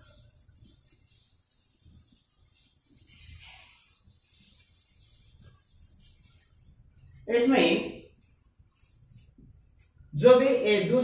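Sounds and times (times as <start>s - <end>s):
duster rubbing on blackboard: 0.0s - 10.1s.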